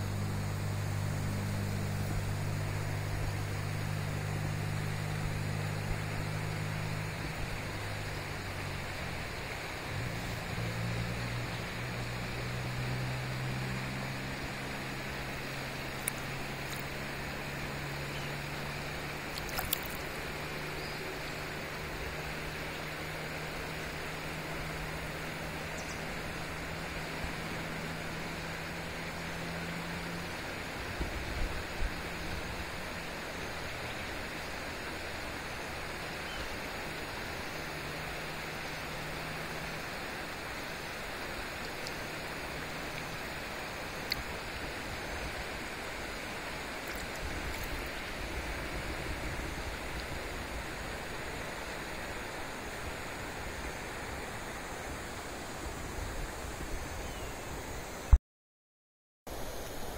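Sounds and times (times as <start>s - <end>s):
river rushing: 0.0s - 58.2s.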